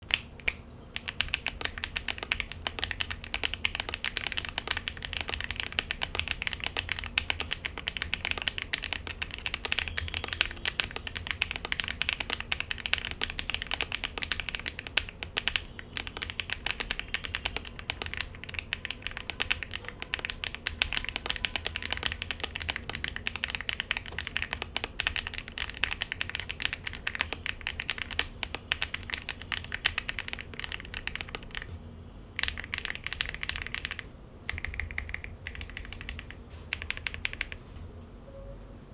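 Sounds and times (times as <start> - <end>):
fast mechanical keyboard typing: 1.0 - 31.8, 32.4 - 37.7.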